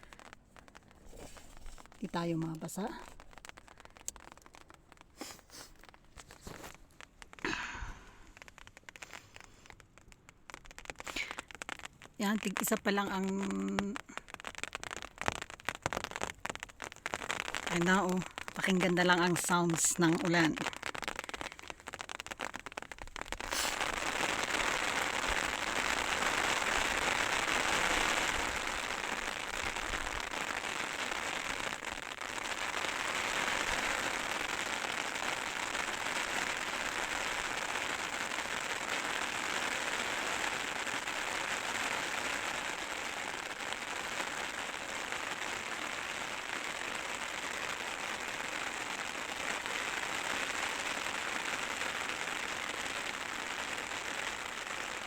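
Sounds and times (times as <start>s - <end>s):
heavy rain on an umbrella: 0.0s - 55.0s.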